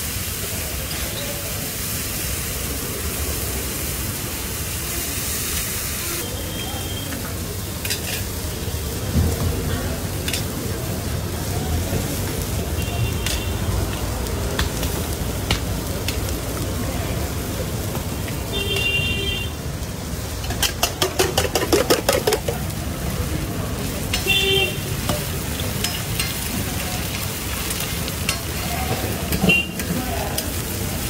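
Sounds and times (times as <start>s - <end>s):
onions sizzling on iron griddle: 0.0s - 31.0s.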